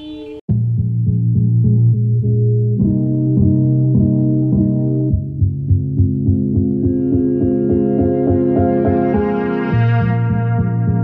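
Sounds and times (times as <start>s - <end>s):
background music chords with pulse: 0.5s - 11.0s.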